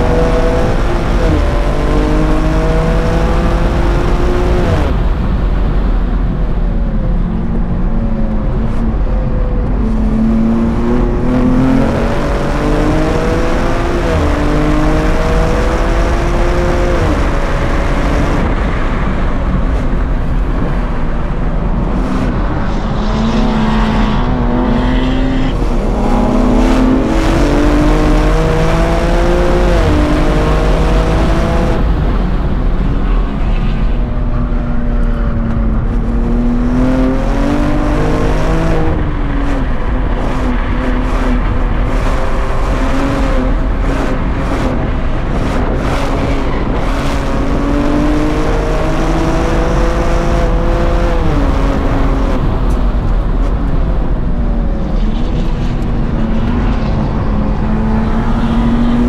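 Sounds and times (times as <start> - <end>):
car engine revving in cabin: 0.0 - 20.7, 21.8 - 33.5, 34.3 - 59.0.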